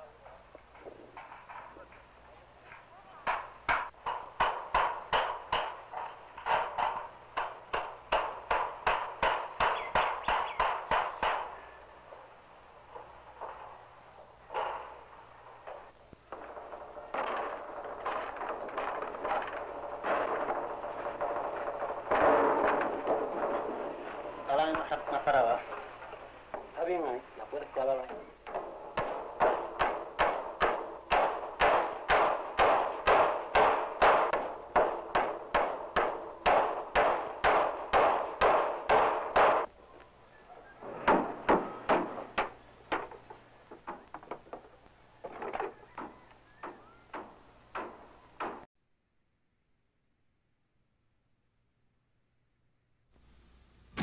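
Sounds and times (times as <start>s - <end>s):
hammers pounding on wood: 2.7s - 39.8s, 40.8s - 48.7s.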